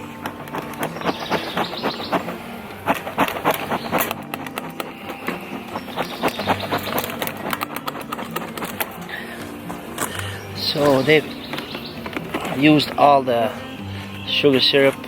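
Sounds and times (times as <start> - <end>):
wooden hive parts knocking: 0.0 - 13.2.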